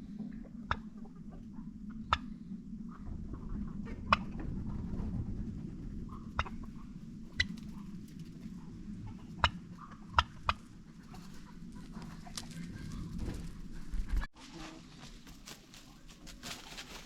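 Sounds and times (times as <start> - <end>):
low rumble: 0.0 - 14.4
chickens clucking: 0.0 - 17.0.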